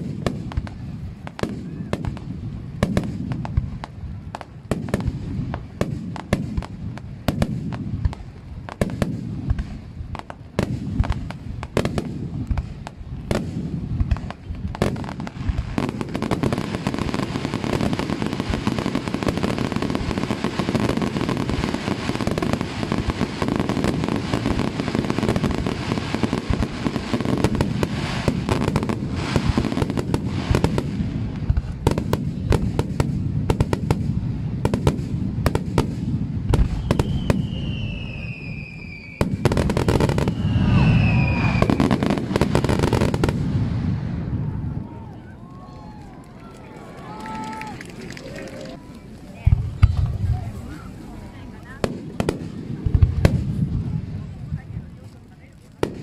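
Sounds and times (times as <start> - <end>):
fireworks bangs and crackle: 0.0 - 56.0.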